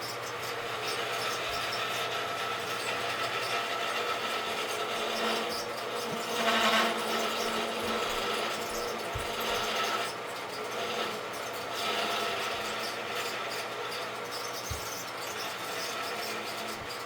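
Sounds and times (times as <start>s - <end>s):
turning tool cutting wood: 0.0s - 17.0s
wood lathe humming: 0.0s - 17.0s.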